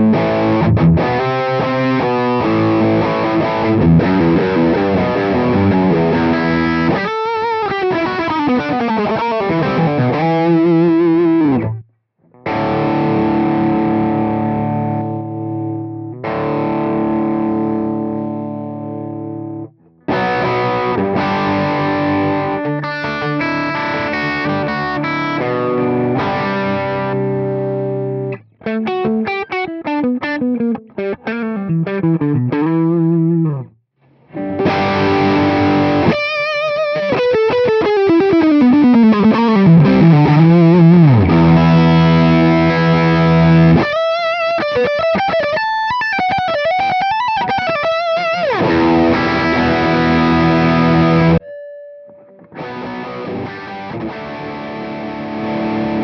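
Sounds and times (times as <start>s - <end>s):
distorted electric guitar: 0.0s - 51.5s, 52.1s - 56.0s.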